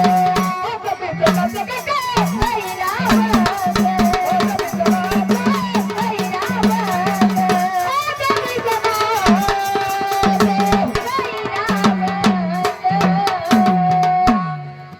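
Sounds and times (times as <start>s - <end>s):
fast percussion clicks: 0.0s - 14.3s
held ornamented melody line: 0.0s - 14.9s.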